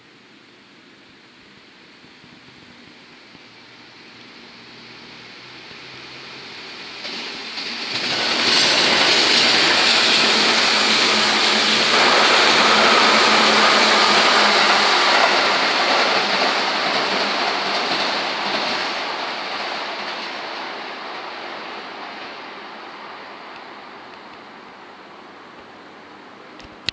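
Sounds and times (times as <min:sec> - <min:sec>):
electric train passing at speed: 0:00.0 - 0:26.9.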